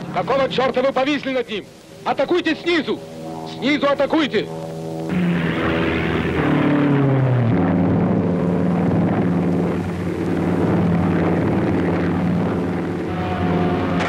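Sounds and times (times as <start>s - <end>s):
propeller aircraft engine drone: 0.0s - 14.0s.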